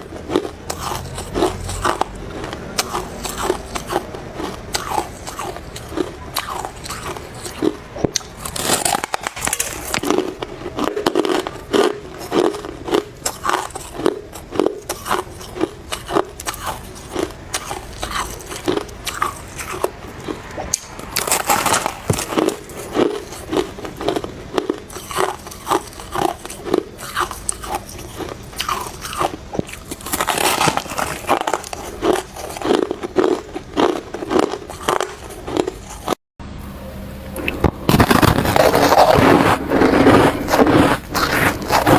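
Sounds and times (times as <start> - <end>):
chewing crunchy frost: 0.0 - 36.2, 37.4 - 41.9.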